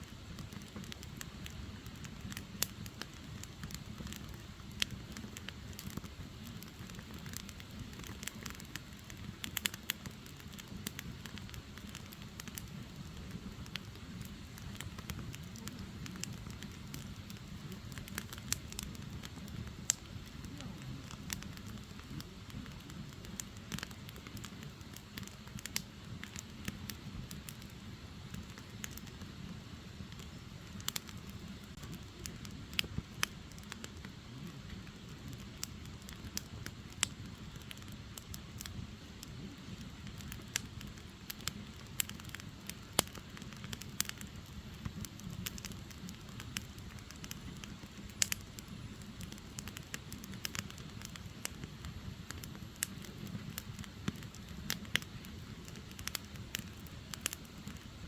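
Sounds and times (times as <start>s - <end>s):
fire rushing: 0.0s - 58.0s
firewood crackling and popping: 0.0s - 58.0s.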